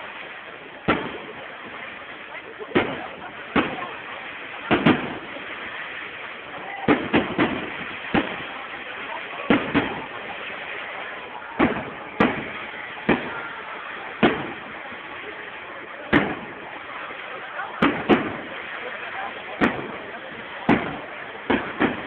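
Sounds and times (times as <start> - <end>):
fireworks bangs: 0.0 - 22.0
steady background hiss: 0.0 - 22.0.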